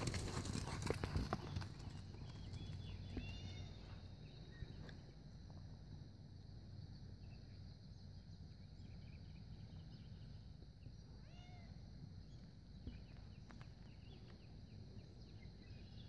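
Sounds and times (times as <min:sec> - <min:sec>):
faint low outdoor rumble: 0:00.0 - 0:16.0
faint chirps: 0:01.4 - 0:16.0.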